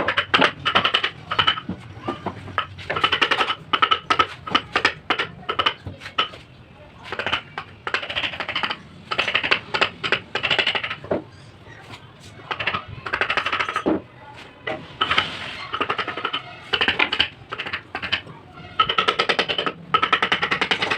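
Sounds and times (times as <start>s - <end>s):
rapid sharp metallic taps: 0.0s - 14.0s, 14.6s - 20.9s.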